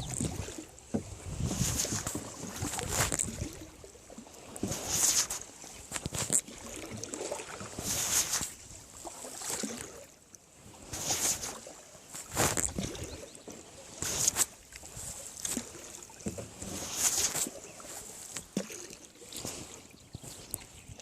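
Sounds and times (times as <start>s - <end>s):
water splashing: 0.0s - 21.0s.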